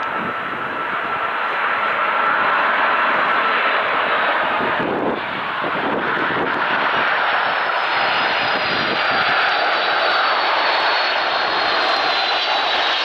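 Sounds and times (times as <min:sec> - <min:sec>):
high-pitched jet whine: 0:00.0 - 0:13.0
jet engines roaring: 0:00.0 - 0:13.0.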